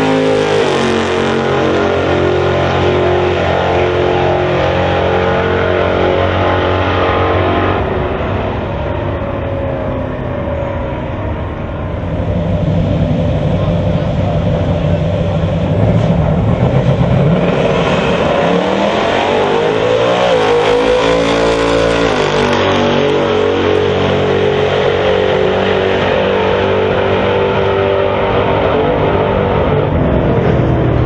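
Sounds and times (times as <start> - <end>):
drag racing cars accelerating: 0.0 - 31.0.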